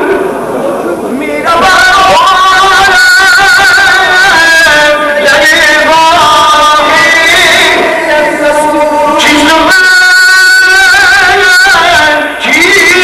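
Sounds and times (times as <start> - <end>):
men singing devotional hymn: 1.3 - 13.0.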